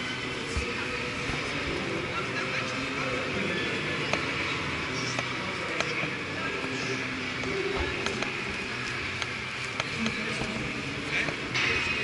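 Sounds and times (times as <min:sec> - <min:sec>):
crowd babble: 0:00.0 - 0:12.0.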